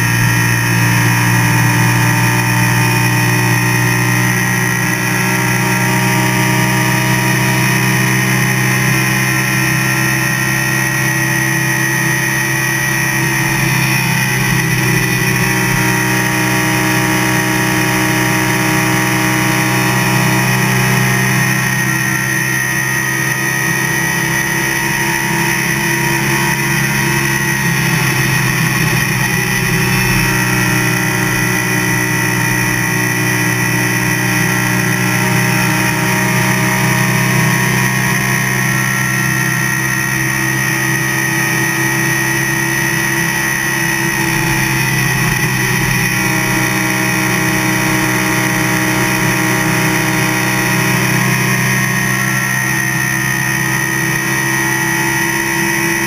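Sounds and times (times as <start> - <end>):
race car engine running: 0.0 - 56.0
wind and road noise: 0.0 - 56.0.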